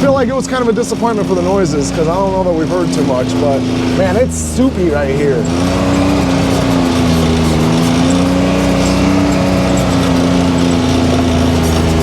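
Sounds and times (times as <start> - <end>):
turbocharged engine running: 0.0 - 12.0.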